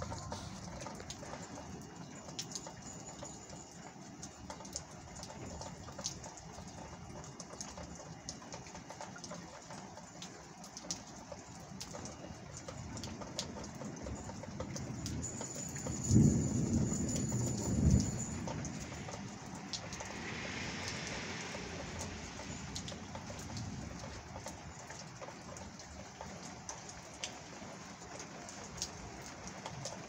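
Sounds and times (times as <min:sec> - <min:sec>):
steady rain with ticking drops: 0:00.0 - 0:30.0.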